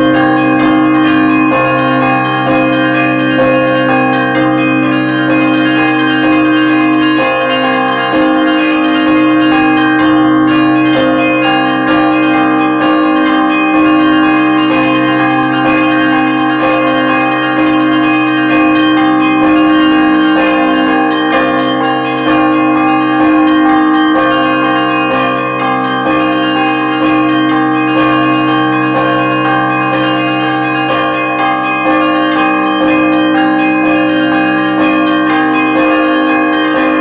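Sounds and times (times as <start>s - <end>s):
church bells ringing: 0.0s - 37.0s.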